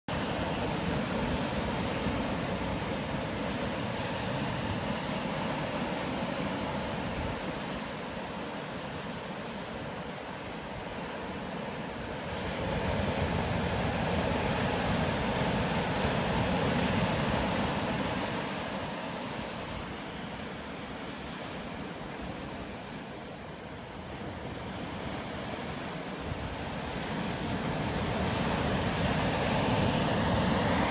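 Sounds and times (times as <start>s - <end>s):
ocean surf breaking: 0.1s - 30.9s.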